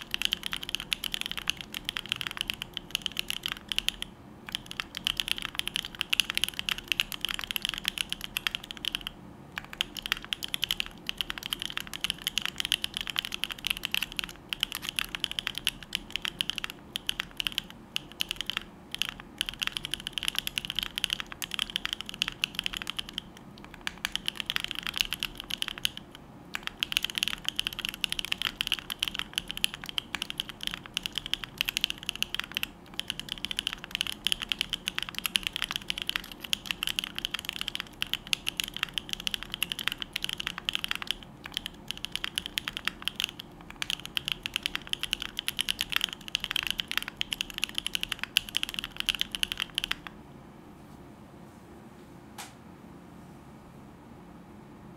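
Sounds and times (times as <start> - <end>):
mechanical keyboard typing: 0.0 - 50.2.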